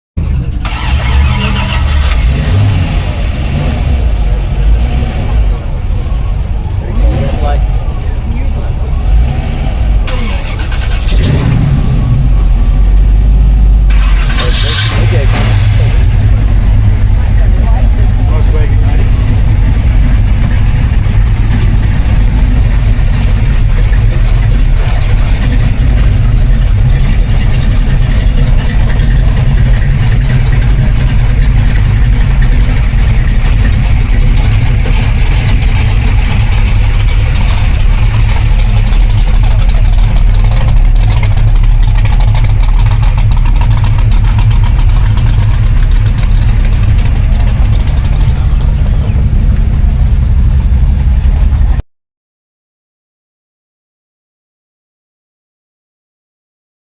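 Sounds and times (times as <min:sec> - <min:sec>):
car engine deep rumble: 0:00.2 - 0:51.8.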